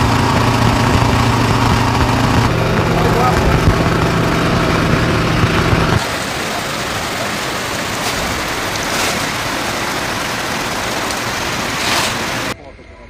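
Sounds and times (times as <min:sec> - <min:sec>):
heavy rain: 0:00.0 - 0:12.6
low hum: 0:00.0 - 0:13.0.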